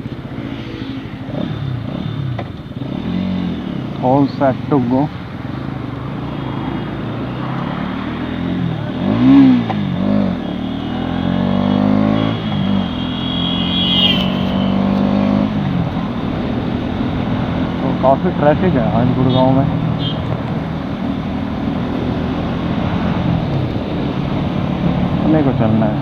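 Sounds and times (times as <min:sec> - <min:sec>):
motorcycle engine revving: 0:00.0 - 0:25.4.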